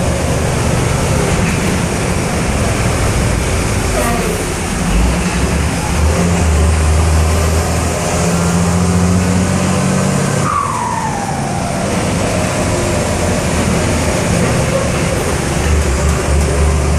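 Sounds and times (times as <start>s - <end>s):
diesel engine pulling under load: 0.0s - 16.9s.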